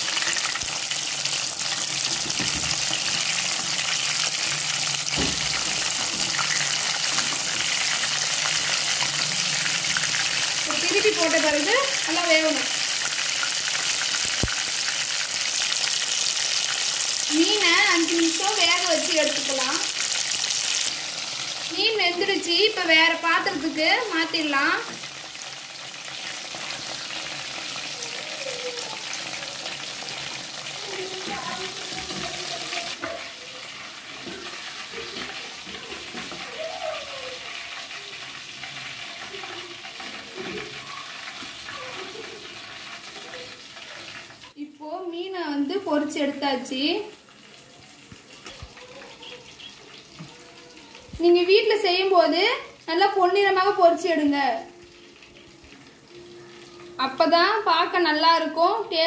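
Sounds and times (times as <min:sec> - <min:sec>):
fish deep-frying in oil: 0:00.0 - 0:44.6, 0:45.4 - 0:59.0.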